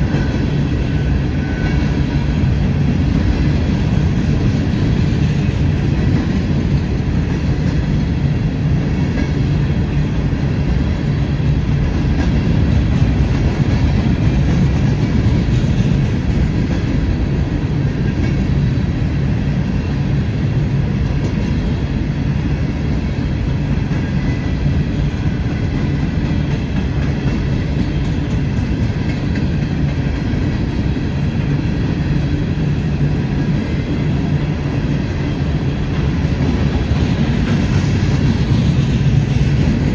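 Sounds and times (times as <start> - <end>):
faint clickety-clack: 0.0 - 39.9
train wheels rumbling on rails: 0.0 - 39.9.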